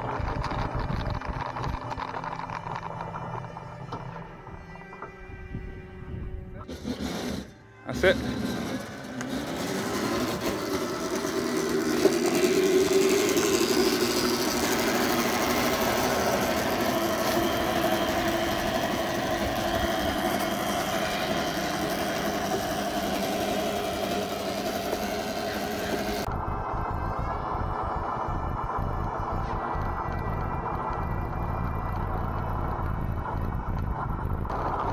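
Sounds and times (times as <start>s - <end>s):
electric motor whine: 0.0s - 34.9s
tyre and road noise: 0.0s - 34.9s.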